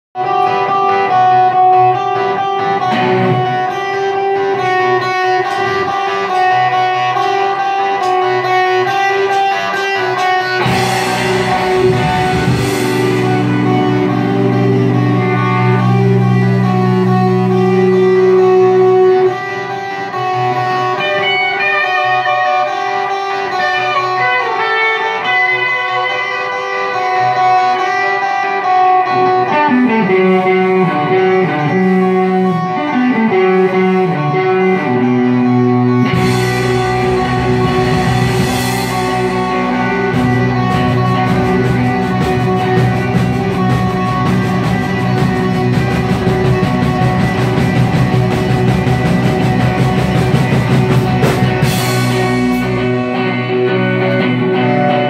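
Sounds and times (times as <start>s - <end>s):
live rock band playing: 0.2s - 55.0s.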